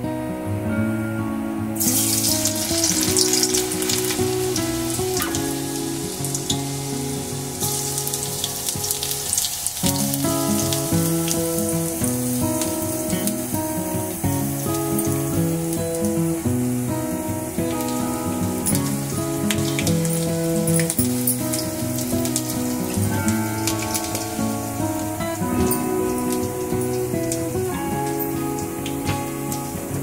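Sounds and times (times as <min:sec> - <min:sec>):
hot oil sizzling: 0:01.6 - 0:30.0.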